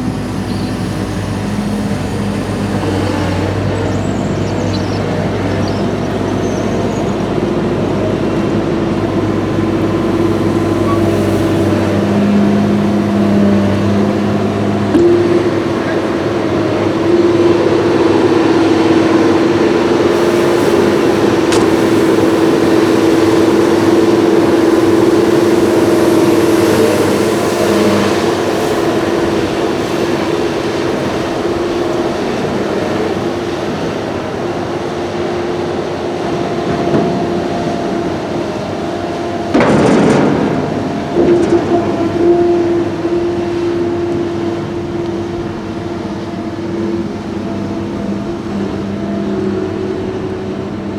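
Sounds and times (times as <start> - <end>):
heavy machinery droning hum: 0.0 - 50.9.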